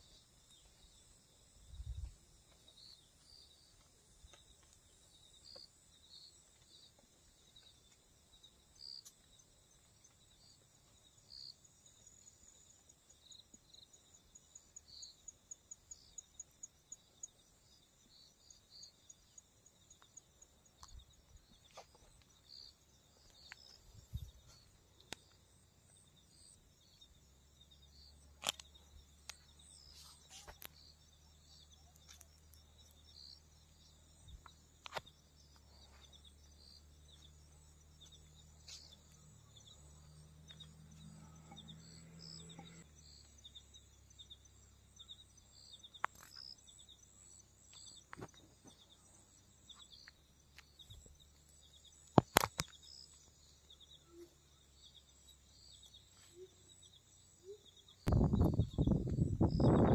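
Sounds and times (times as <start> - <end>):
crickets and insects chirping: 0.0 - 59.9.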